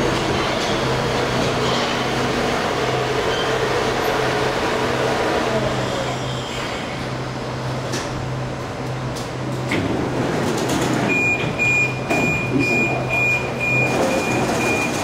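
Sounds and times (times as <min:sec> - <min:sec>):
electric train hum: 0:00.0 - 0:12.2.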